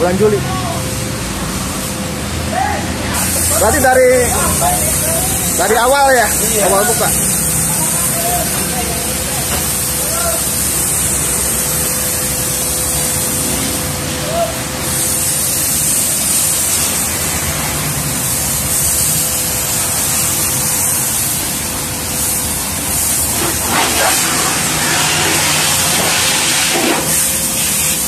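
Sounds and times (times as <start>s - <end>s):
steady hum: 0.0s - 28.0s
high-pressure water jet hissing: 3.0s - 28.0s.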